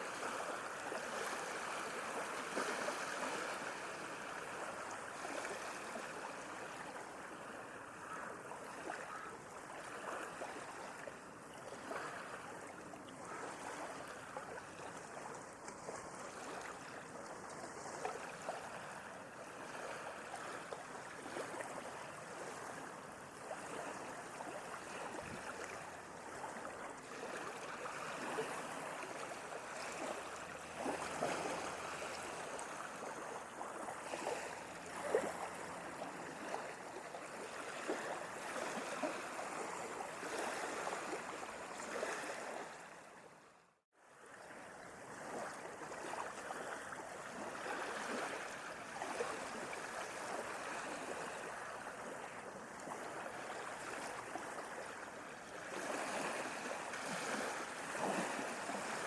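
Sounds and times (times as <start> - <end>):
water splashes: 0.0 - 43.4, 44.1 - 59.0
sea water lapping at shore: 0.0 - 59.0.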